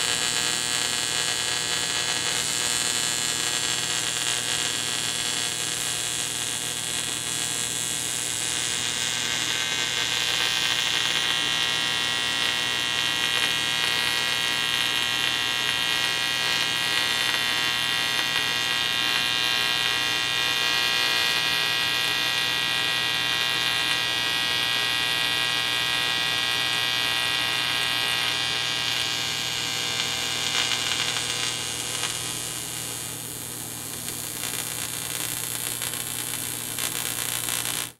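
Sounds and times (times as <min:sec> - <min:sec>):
electrical buzz of cables: 0:00.0 - 0:37.9.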